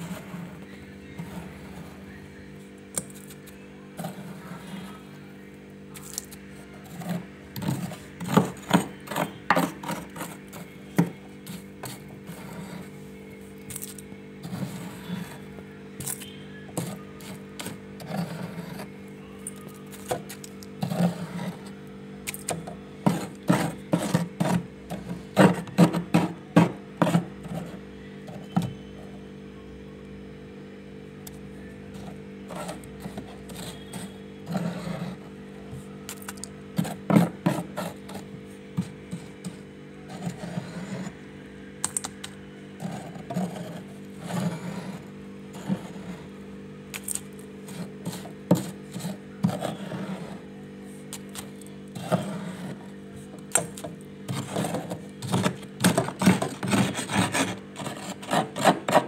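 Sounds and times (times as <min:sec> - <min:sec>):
spoon scraping freezer frost: 0:00.0 - 0:02.2, 0:03.0 - 0:05.2, 0:05.9 - 0:29.2, 0:31.2 - 0:59.0
steady hum: 0:00.0 - 0:59.0.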